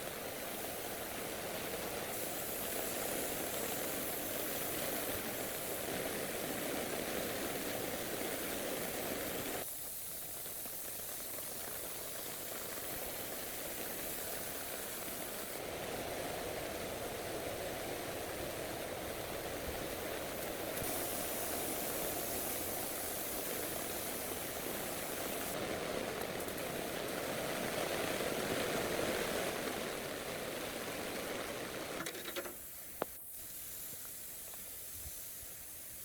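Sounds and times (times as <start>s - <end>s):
steady mechanical hissing: 0.0s - 36.0s.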